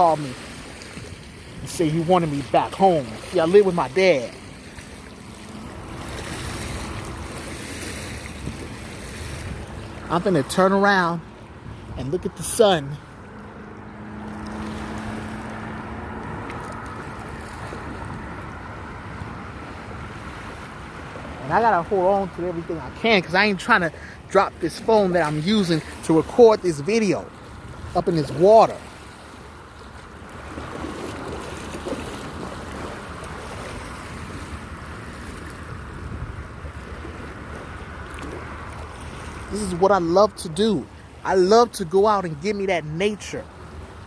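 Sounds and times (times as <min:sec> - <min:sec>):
lake water lapping: 0:00.0 - 0:44.0
wind: 0:00.0 - 0:44.0.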